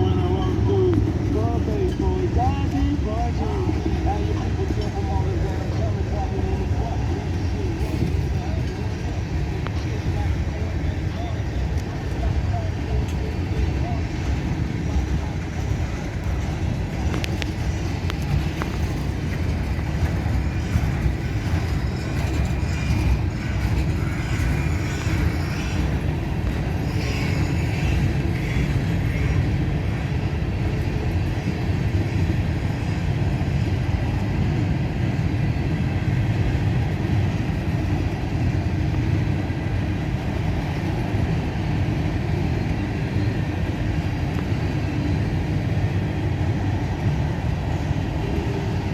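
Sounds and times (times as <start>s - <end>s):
freight train wheels rumbling: 0.0s - 48.9s.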